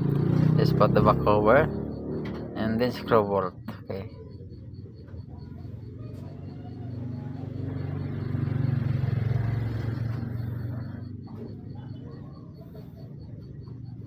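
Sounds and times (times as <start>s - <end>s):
passing vehicle engine rumble: 0.0s - 14.0s.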